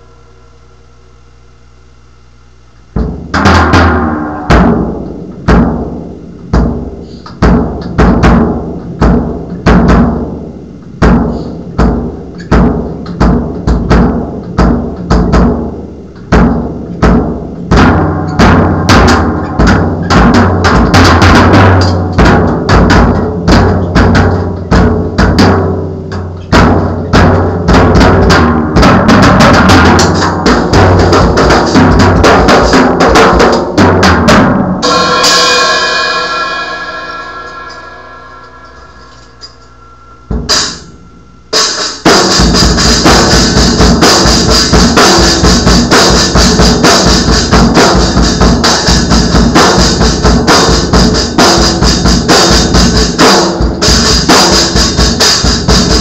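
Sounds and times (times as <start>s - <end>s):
drum kit played hard: 2.9s - 56.0s.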